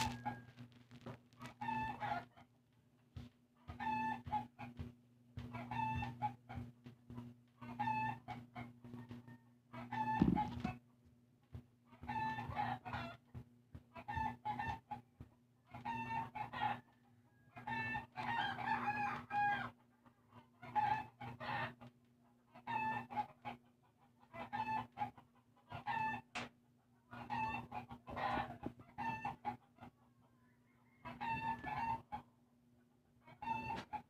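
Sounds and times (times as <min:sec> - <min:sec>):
chickens calling: 0:00.0 - 0:02.6, 0:03.2 - 0:10.8, 0:11.9 - 0:34.0.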